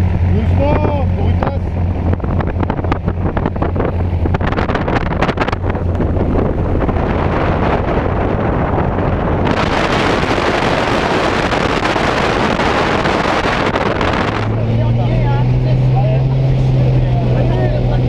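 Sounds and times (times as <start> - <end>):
propeller engine idling: 0.0 - 18.0.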